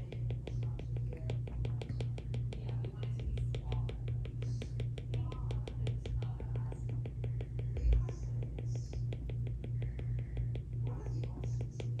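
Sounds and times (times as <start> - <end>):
low hum: 0.0 - 12.0
stylus tapping on glass screen: 0.0 - 12.0.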